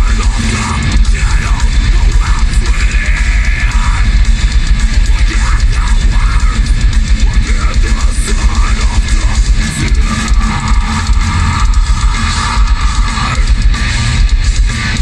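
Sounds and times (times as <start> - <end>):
live heavy metal band: 0.0 - 15.0.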